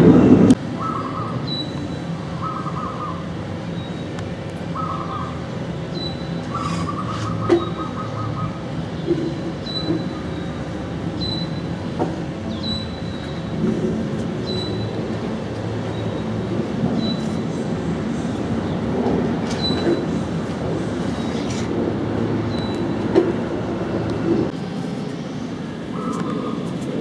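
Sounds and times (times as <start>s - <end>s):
jet engines rumbling overhead: 0.0s - 27.0s.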